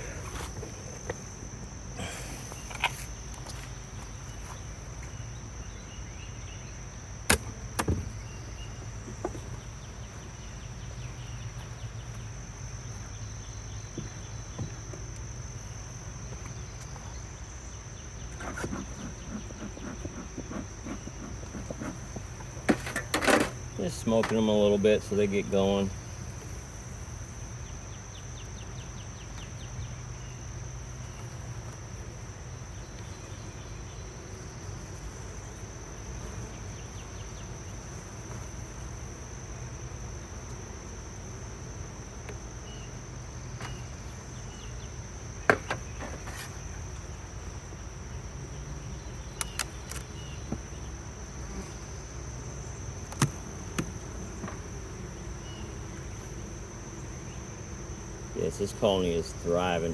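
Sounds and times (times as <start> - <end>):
high-pitched insect trill: 0.0 - 59.9
honey bees buzzing: 0.0 - 59.9.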